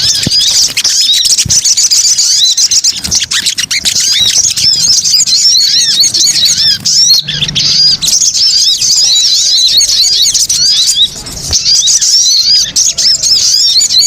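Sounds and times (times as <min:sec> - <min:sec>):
birds chirping in chorus: 0:00.0 - 0:14.0.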